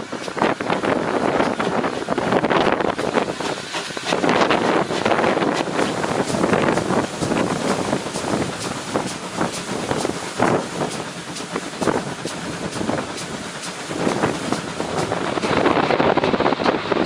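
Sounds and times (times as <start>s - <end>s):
train running: 0.0s - 17.0s
wind buffeting microphone: 0.0s - 17.0s.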